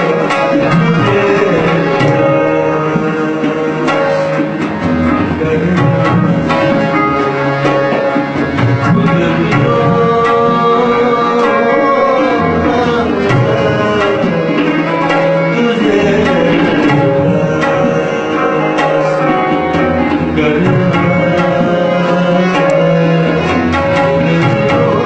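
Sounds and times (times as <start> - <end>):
held melodic instrument notes: 0.0 - 25.0
tabla strokes: 0.0 - 25.0.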